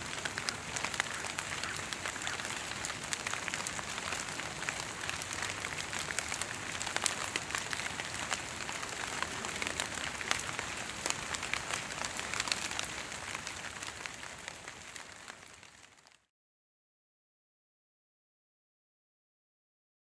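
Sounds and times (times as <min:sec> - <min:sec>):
water dripping onto foliage: 0:00.0 - 0:16.2.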